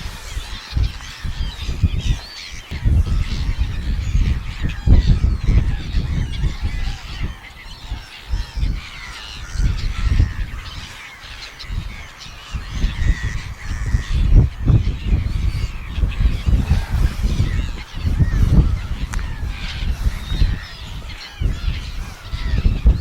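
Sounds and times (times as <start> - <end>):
seagulls calling: 0.0 - 23.0
wind buffeting microphone: 0.0 - 23.0.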